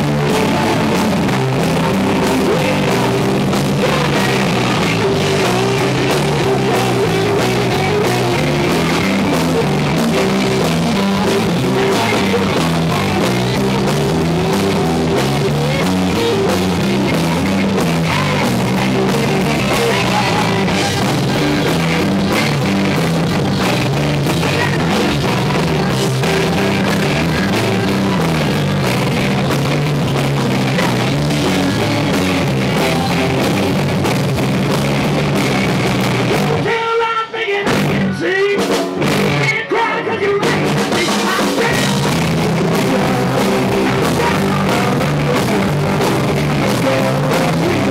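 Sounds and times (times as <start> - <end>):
distorted electric guitars: 0.0 - 47.9
driving drum kit: 0.0 - 47.9.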